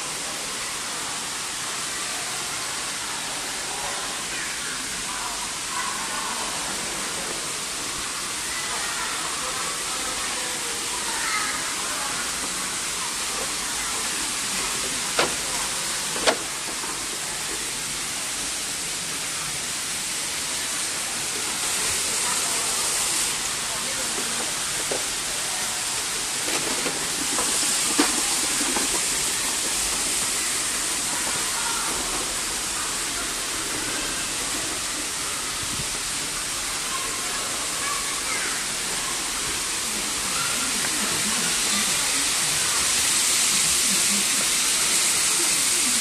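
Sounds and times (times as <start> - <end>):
faint murmur of crowd voices: 0.0 - 46.0
steady rushing hiss: 0.0 - 46.0.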